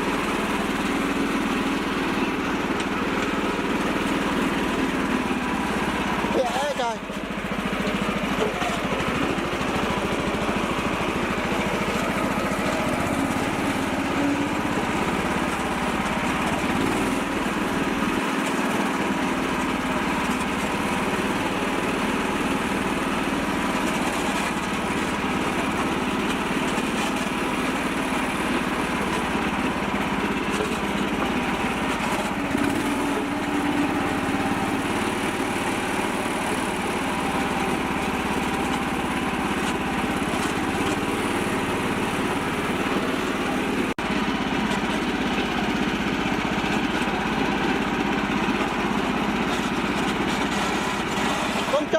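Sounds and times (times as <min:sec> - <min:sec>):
small tractor engine running: 0:00.0 - 0:51.9.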